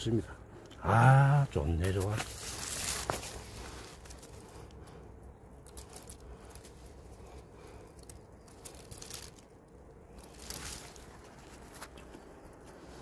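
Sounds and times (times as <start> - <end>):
low steady rumble: 0.0 - 13.0
soft rustles and clicks: 1.7 - 13.0.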